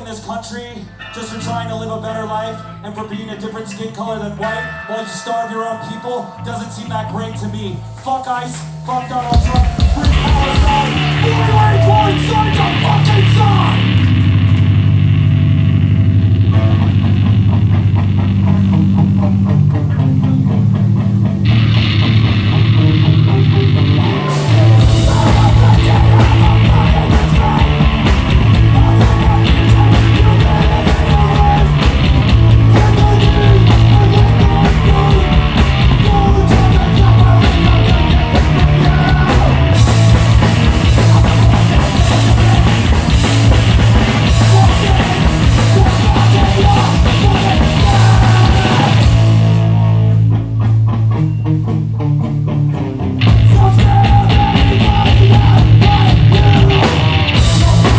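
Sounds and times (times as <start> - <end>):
bass guitar: 0.0 - 5.0, 6.0 - 57.9
distorted electric guitar: 0.0 - 57.9
drum kit: 6.2 - 57.9.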